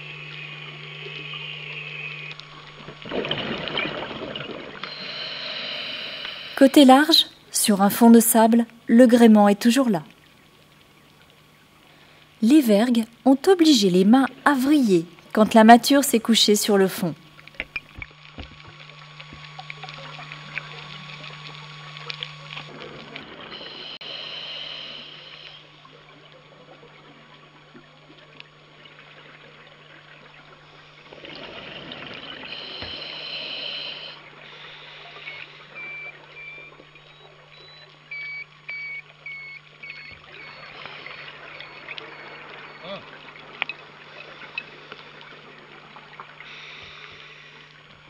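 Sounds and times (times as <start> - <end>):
scuba regulator exhaust bubbles: 0.0 - 8.9, 17.0 - 48.0
underwater hiss and hum: 0.0 - 48.0.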